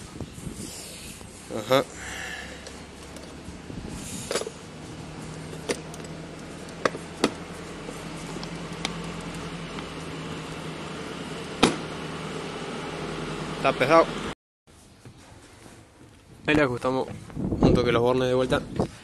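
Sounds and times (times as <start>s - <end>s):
low mechanical hum: 0.0s - 16.4s.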